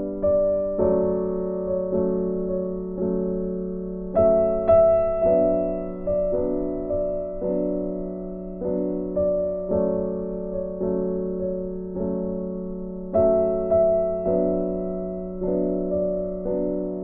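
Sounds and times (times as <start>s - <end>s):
slow gentle piano chords: 0.0s - 17.0s.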